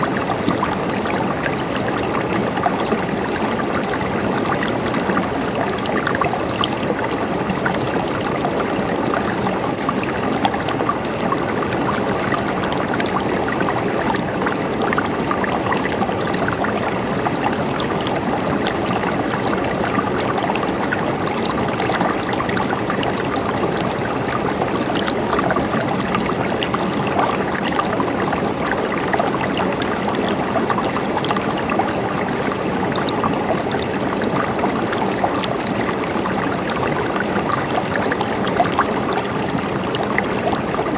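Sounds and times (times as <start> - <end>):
stream of water flowing: 0.0 - 40.9.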